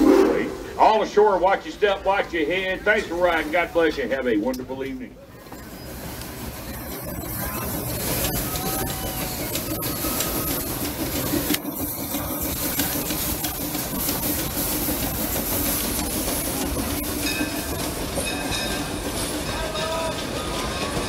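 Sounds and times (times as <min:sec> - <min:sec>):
steam locomotive rush of steam: 0:00.0 - 0:04.4, 0:05.0 - 0:21.0.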